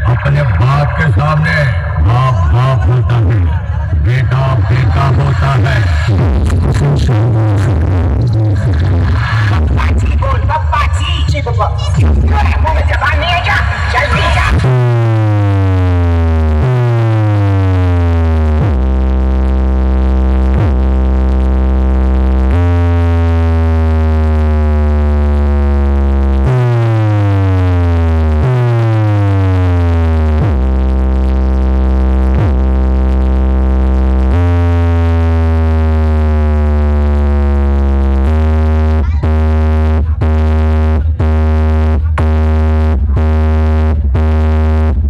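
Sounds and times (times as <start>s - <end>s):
loud electronic bass music: 0.0s - 45.0s.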